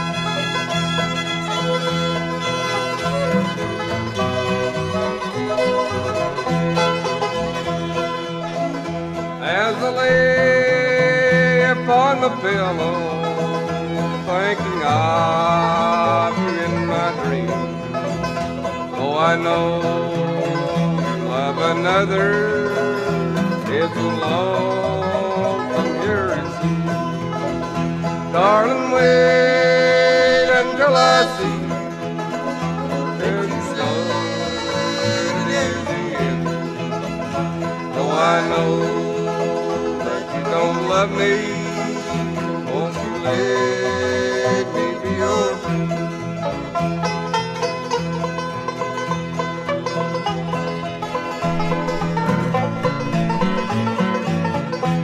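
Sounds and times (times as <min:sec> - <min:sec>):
acoustic guitar: 0:00.0 - 0:55.0
banjo picking: 0:00.0 - 0:55.0
fiddle sliding in pitch: 0:00.0 - 0:55.0
upright bass: 0:00.0 - 0:55.0.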